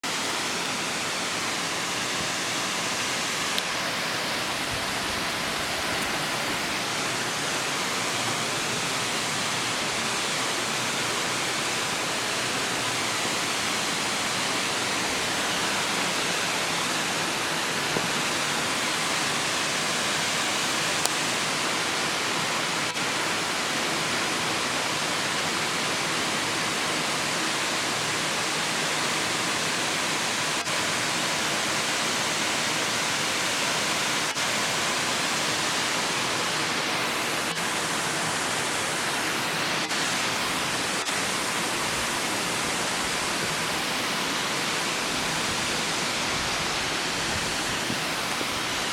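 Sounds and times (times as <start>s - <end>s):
waterfall pouring into pool: 0.0s - 48.9s.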